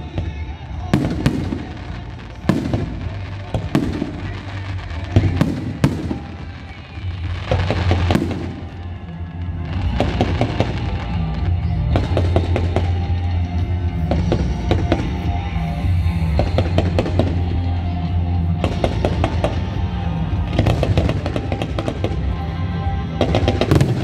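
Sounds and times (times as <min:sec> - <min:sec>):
fireworks bangs and crackles: 0:00.0 - 0:24.0
music with steady bass: 0:00.0 - 0:24.0.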